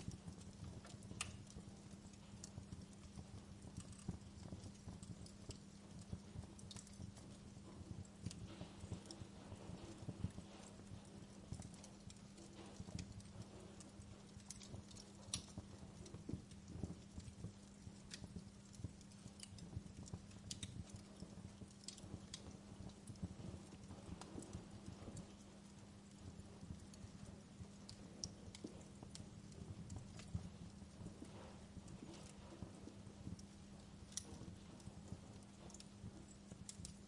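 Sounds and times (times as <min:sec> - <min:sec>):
faint low hum: 0:00.0 - 0:37.0
wood fire crackling: 0:00.0 - 0:37.0.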